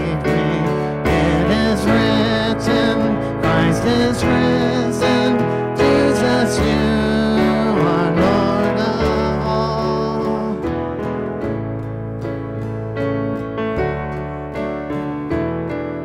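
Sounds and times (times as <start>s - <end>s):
acoustic guitar: 0.0s - 16.0s
keyboard playing: 0.0s - 16.0s.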